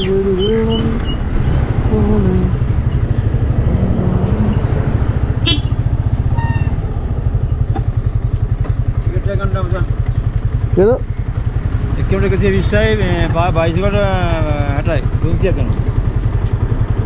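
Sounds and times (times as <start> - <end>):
motorcycle engine throbbing: 0.0 - 17.0.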